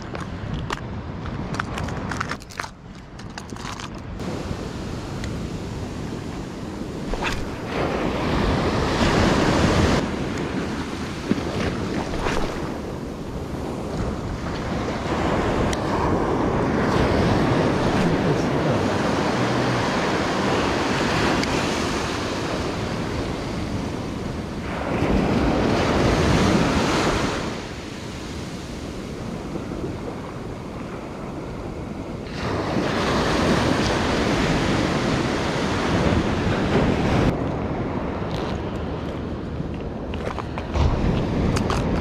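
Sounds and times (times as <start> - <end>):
wind buffeting microphone: 0.0 - 42.0
sea surf breaking on beach: 4.2 - 39.5, 40.4 - 42.0.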